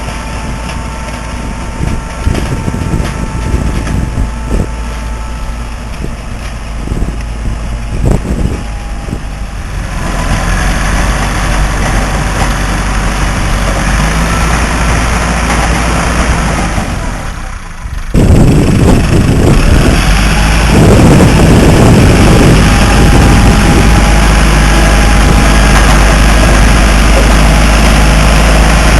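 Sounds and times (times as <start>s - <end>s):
drilling rig engine running: 0.0s - 28.9s.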